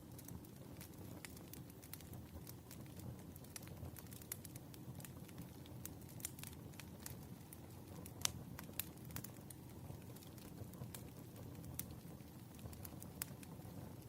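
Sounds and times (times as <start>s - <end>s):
rumble of burning logs: 0.0s - 14.0s
wood fire crackling: 0.0s - 14.0s.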